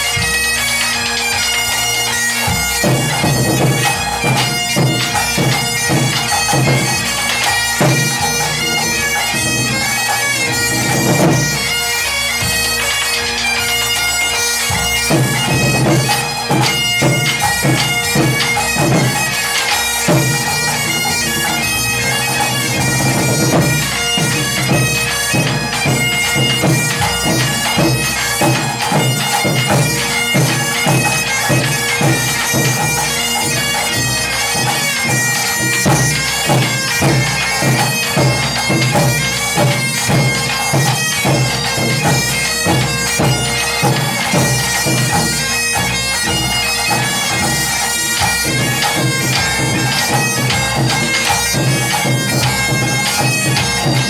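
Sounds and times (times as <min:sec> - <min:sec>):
bagpipes playing melody: 0:00.0 - 0:54.0
fast continuous drumming: 0:00.0 - 0:54.0.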